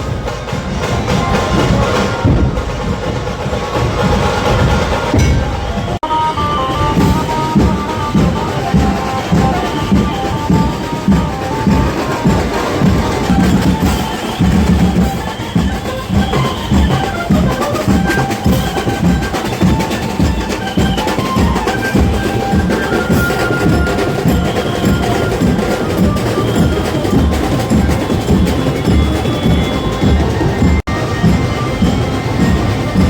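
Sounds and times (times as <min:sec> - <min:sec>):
loud fast drumming: 0:00.0 - 0:33.0.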